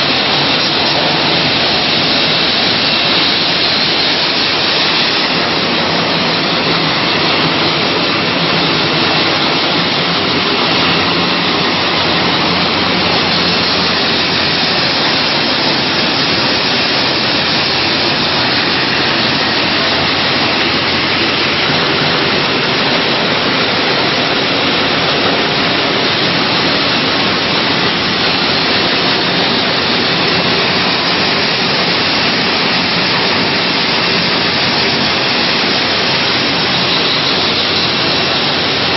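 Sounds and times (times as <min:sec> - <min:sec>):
packing machines running: 0:00.0 - 0:38.9.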